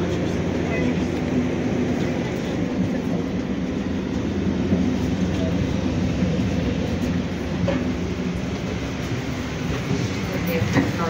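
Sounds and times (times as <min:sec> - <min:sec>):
railway equipment rumbling: 0:00.0 - 0:11.0.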